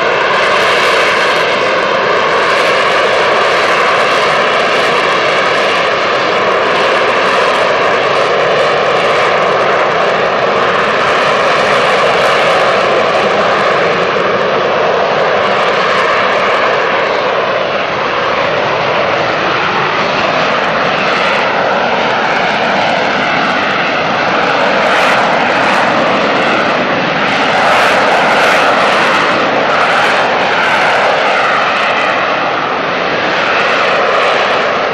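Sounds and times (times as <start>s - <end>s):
jet engine rush with whine: 0.0s - 34.9s.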